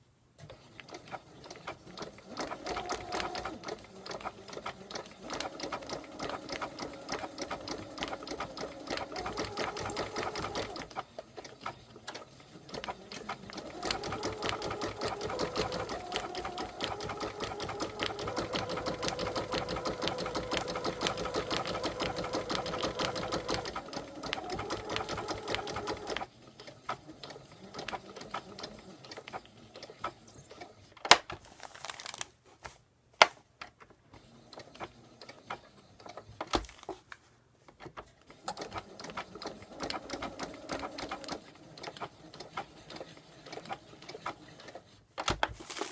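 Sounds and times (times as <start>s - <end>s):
sewing machine stitching: 0.4s - 30.9s, 34.1s - 36.9s, 37.8s - 45.9s.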